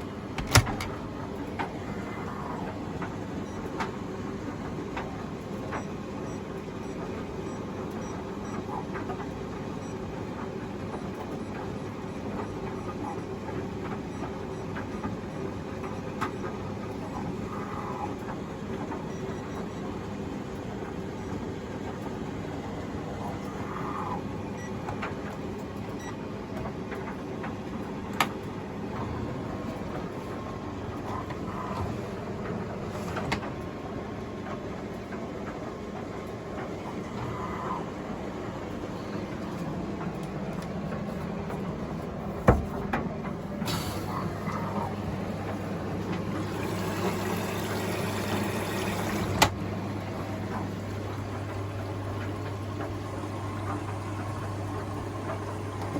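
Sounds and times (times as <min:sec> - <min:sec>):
washing machine motor hum: 0:00.0 - 0:55.9.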